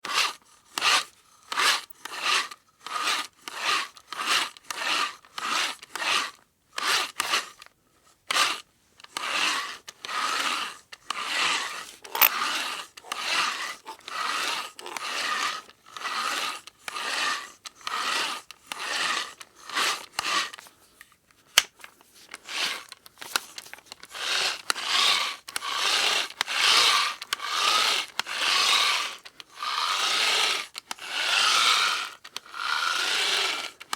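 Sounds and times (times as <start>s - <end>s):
hand drill rasping strokes: 0.0s - 20.7s, 22.2s - 33.9s.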